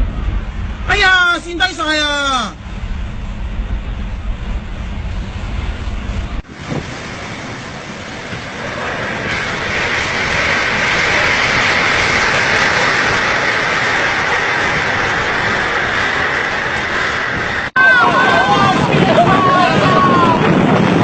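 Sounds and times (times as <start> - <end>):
storm wind hissing: 0.0 - 21.0
wind buffeting microphone: 0.0 - 21.0.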